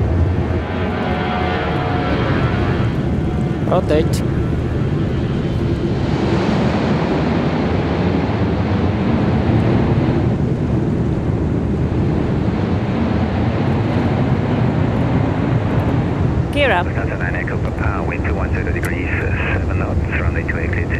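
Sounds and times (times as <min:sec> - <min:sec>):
jet engines at takeoff thrust: 0:00.0 - 0:20.9.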